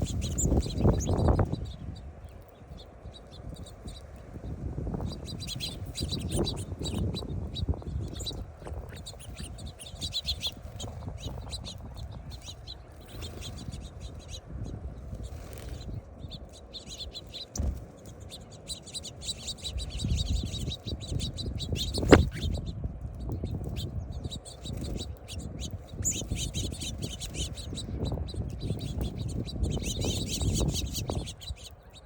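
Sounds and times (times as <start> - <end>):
steady low rumble: 0.0 - 31.2
small birds chirping: 0.0 - 32.0.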